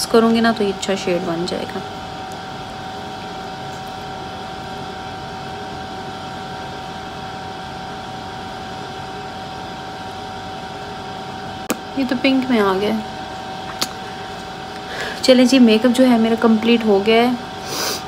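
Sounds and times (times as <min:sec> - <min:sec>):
background hum and hiss: 0:00.0 - 0:18.0
constant thin whine: 0:00.0 - 0:18.0.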